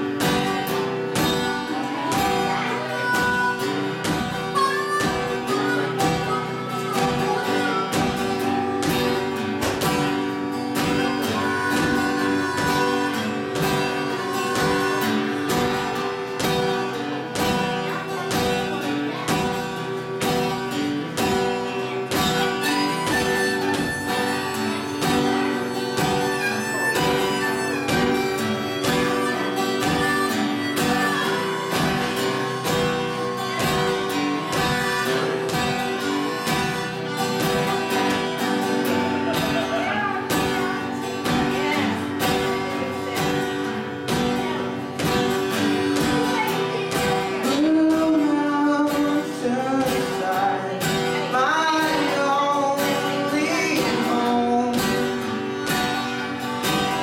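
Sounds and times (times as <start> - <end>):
acoustic guitar strumming: 0.0 - 57.0
harmonica melody: 0.0 - 57.0.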